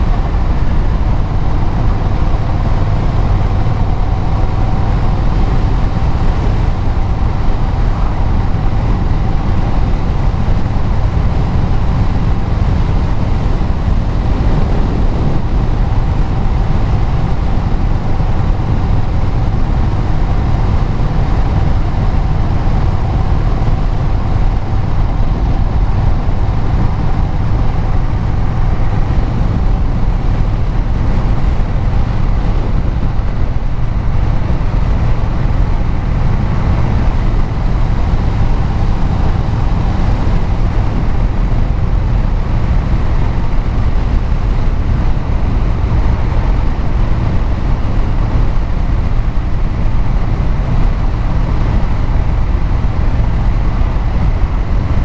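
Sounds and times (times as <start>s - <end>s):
road noise: 0.0s - 55.0s
vehicle engine and exhaust: 0.0s - 55.0s.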